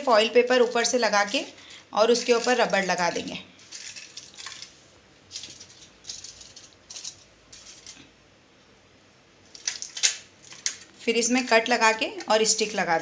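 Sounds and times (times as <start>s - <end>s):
aluminium foil crinkling: 0.0s - 8.1s, 9.5s - 13.0s.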